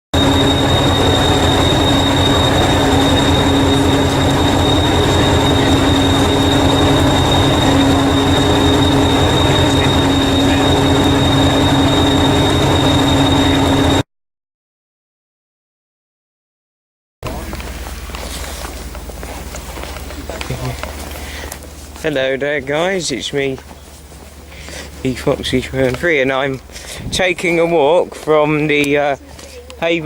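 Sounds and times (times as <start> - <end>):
train rumbling with whine: 0.0 - 14.0, 17.2 - 30.0.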